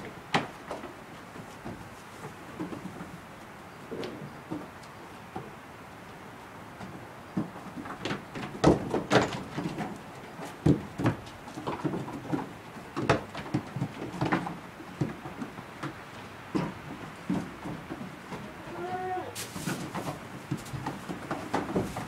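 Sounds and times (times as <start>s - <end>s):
hooves clattering on wooden boards: 0.0s - 22.0s.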